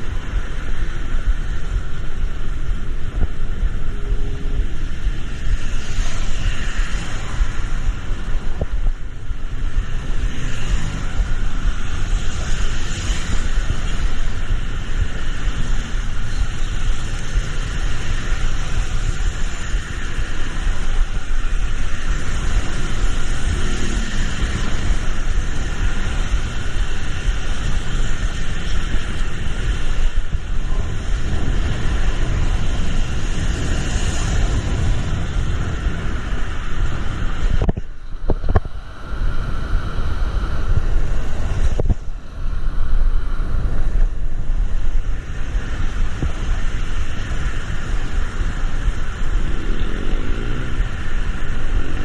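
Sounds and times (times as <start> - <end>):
rain hiss: 0.0 - 52.0
road traffic rumble: 0.0 - 52.0.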